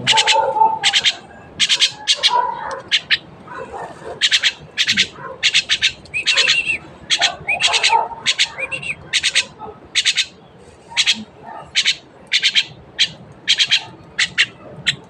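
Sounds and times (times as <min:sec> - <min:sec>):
pet bird squawking: 0:00.0 - 0:15.0.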